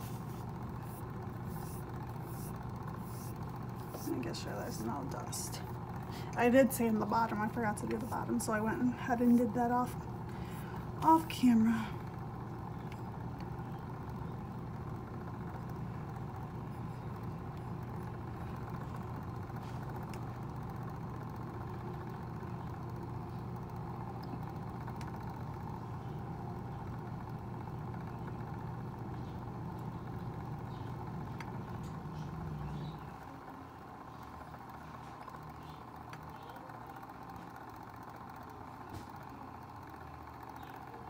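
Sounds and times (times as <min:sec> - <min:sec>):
small electric motor humming: 0:00.0 - 0:41.0.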